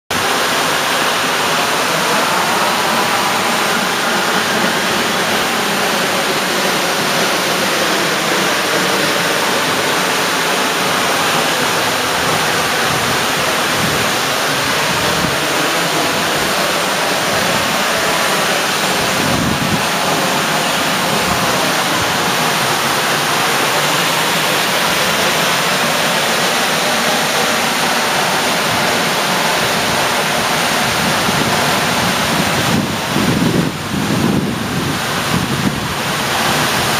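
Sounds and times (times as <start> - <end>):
waterfall rushing: 0.1 - 36.9.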